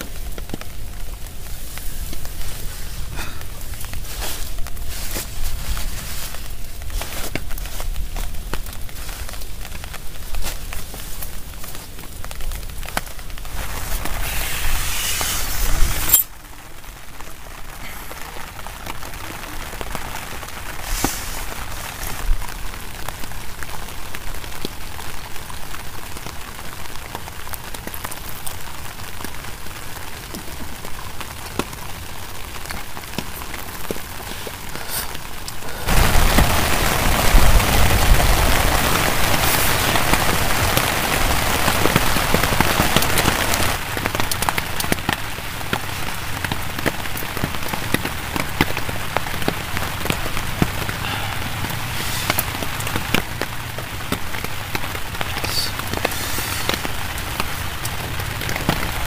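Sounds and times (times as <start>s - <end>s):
rain pattering on a tarp: 0.0s - 59.0s.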